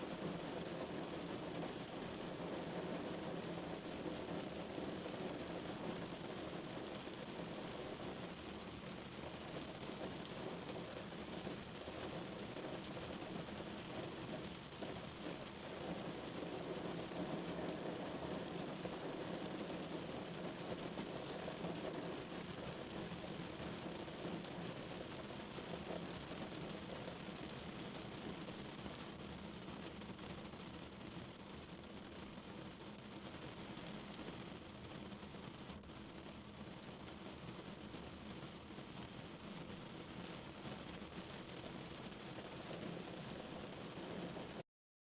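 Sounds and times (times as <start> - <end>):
rain drumming on car roof: 0.1 - 44.6.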